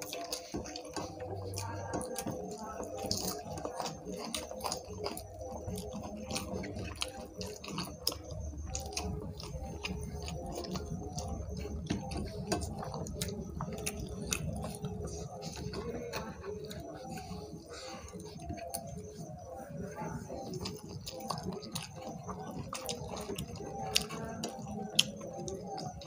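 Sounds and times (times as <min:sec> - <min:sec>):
fingers mixing rice clicks: 0:00.0 - 0:26.0
people chewing: 0:00.0 - 0:26.0
steady low hum: 0:00.0 - 0:26.0.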